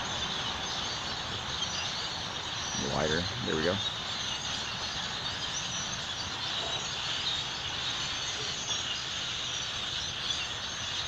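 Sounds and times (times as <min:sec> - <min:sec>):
flock of small birds chirping: 0:00.0 - 0:11.0.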